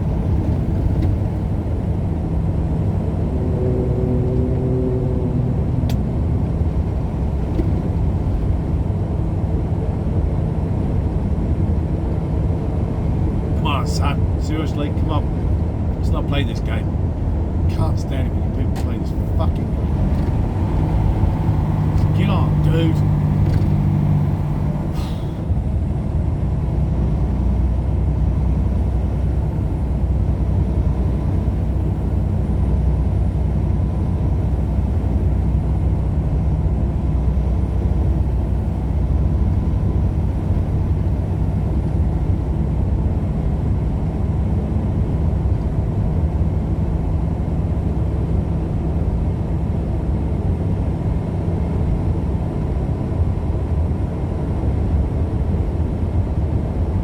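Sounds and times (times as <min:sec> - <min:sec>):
vehicle road and engine rumble: 0:00.0 - 0:57.0.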